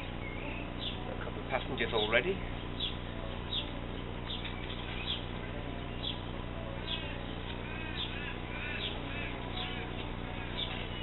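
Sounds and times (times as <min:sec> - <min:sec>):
songbird chirping: 0:00.0 - 0:11.0
steady low hum: 0:00.0 - 0:11.0.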